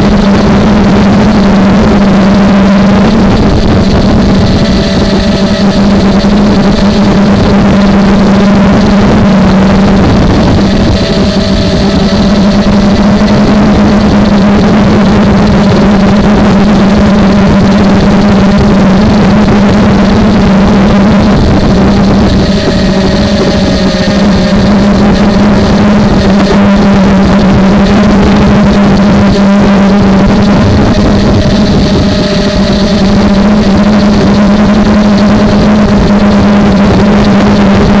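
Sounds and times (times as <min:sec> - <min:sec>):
quadcopter motors humming: 0:00.0 - 0:38.0.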